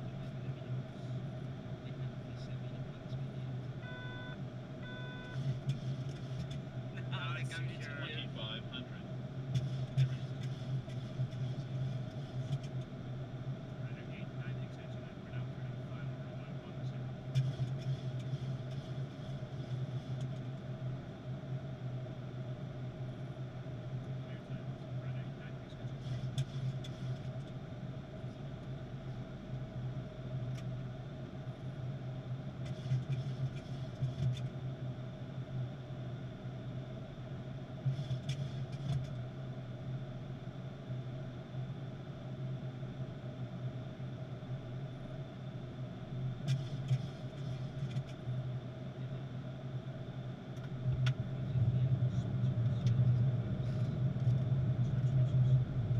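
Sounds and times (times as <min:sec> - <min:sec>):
constant low hum: 0:00.0 - 0:55.9.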